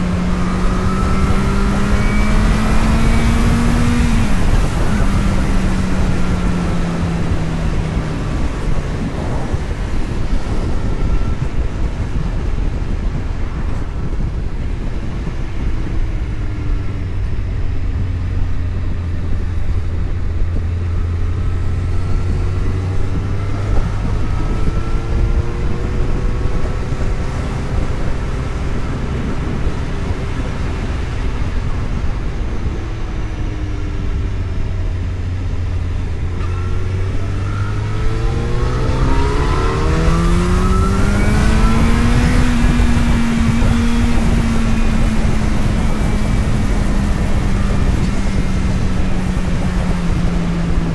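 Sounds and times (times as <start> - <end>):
road and wind noise: 0.0 - 50.9
vehicle engine running: 0.0 - 50.9.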